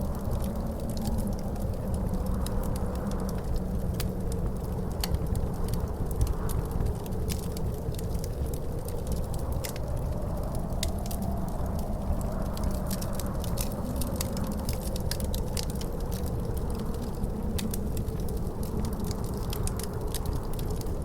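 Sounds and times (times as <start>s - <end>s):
wind howling: 0.0s - 21.0s
wood fire crackling and popping: 0.0s - 21.0s.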